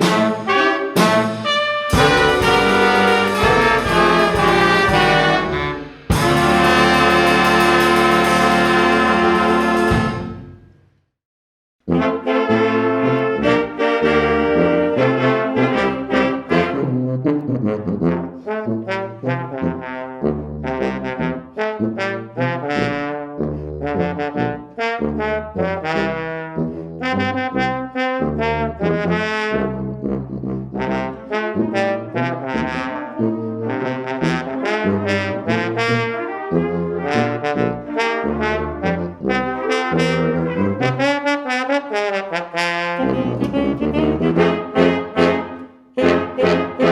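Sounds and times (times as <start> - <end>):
brass ensemble music: 0.0 - 10.8, 11.8 - 46.9.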